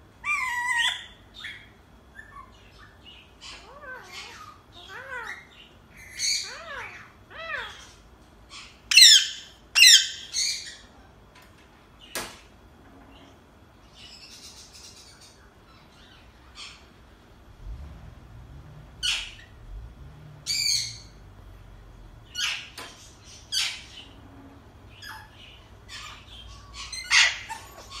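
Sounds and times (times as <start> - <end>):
parakeet calling and squawking: 0.1 - 11.1, 13.2 - 17.2, 18.8 - 28.0.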